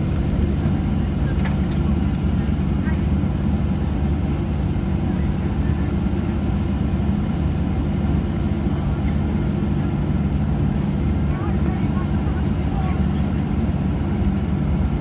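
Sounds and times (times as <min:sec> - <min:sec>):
low airplane cabin hum: 0:00.0 - 0:15.0.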